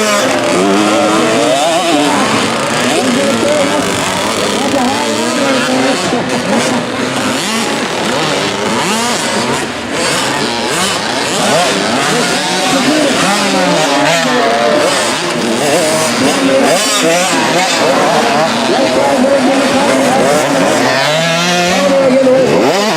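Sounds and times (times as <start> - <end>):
motocross bikes revving: 0.0 - 22.9.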